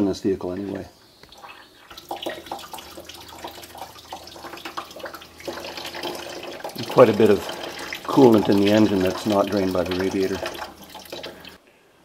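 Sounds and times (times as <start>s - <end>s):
liquid pouring from a hose: 1.3s - 11.6s.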